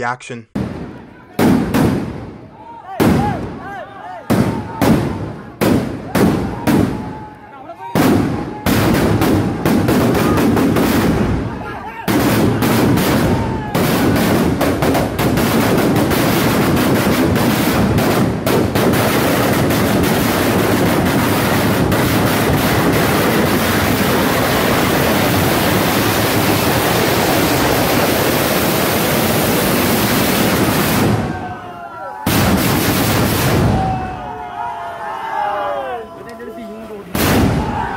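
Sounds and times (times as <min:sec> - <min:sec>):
ground fireworks bangs and crackling: 0:00.6 - 0:34.3, 0:37.1 - 0:37.9.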